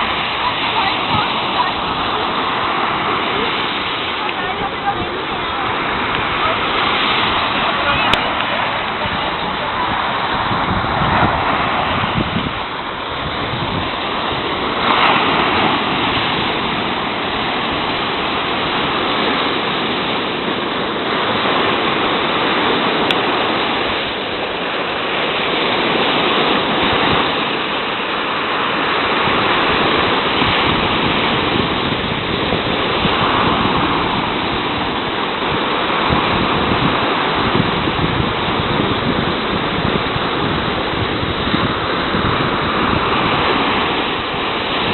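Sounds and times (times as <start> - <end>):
waves breaking on shore: 0.0 - 44.9.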